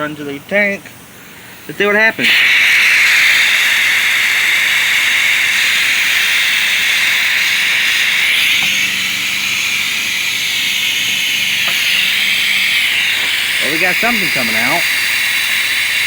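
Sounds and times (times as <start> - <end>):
compressed air hissing: 0.9 - 16.0.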